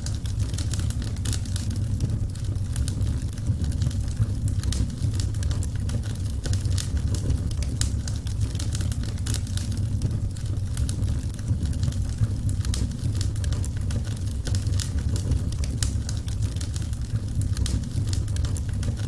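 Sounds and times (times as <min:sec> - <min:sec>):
fire crackling and snapping: 0:00.0 - 0:19.0
low rumble of flames: 0:00.0 - 0:19.0.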